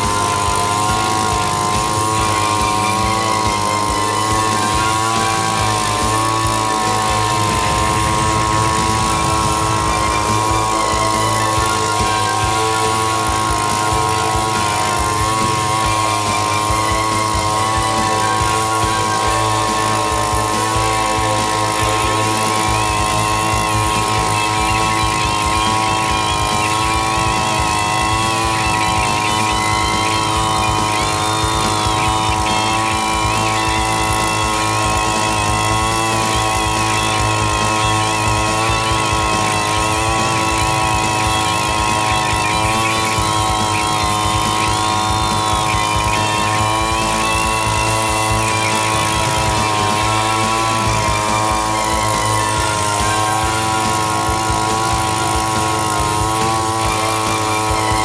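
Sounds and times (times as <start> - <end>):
small engine running steadily: 0.0 - 58.0
wavering high whine: 0.0 - 58.0.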